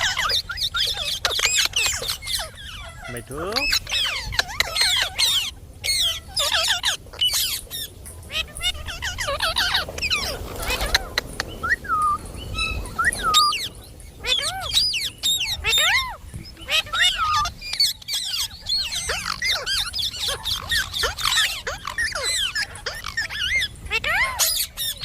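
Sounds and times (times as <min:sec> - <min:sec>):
parrots chattering: 0:00.0 - 0:25.0.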